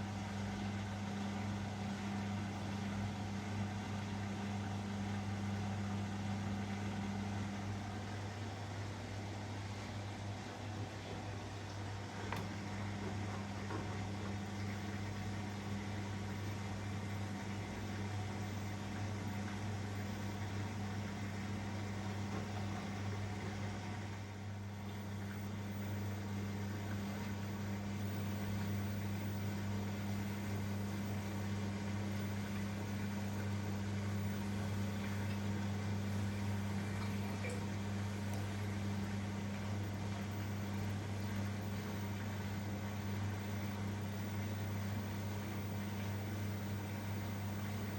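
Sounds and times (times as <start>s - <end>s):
washing machine humming: 0.0s - 47.9s.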